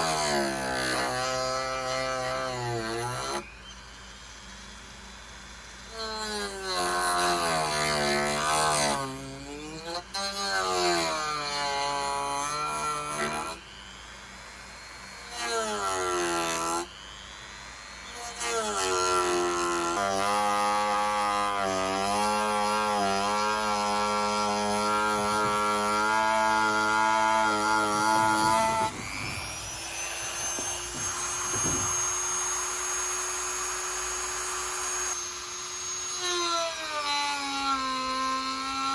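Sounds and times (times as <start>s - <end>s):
rotary tool cutting plastic: 0.0s - 4.2s, 5.8s - 14.0s, 14.6s - 38.9s.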